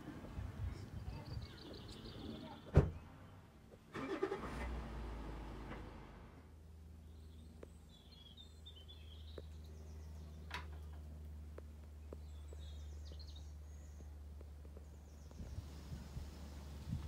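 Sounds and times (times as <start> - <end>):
faint birdsong chirping: 0.0 - 3.9, 6.5 - 17.0.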